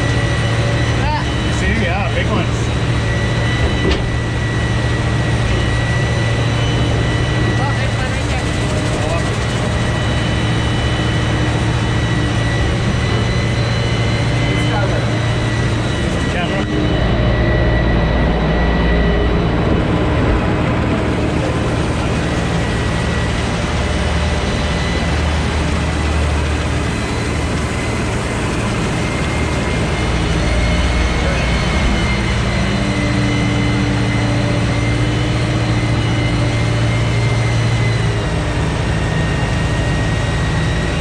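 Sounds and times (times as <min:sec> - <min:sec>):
thin steady whine: 0:00.0 - 0:41.0
vehicle engine drone: 0:00.0 - 0:41.0.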